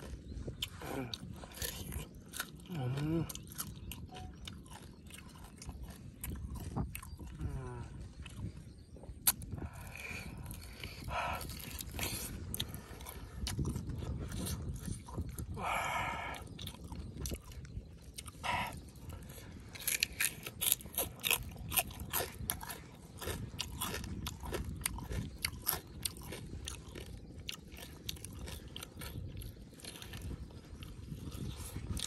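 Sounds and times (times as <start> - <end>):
crunching of charred skin: 0.0 - 32.0.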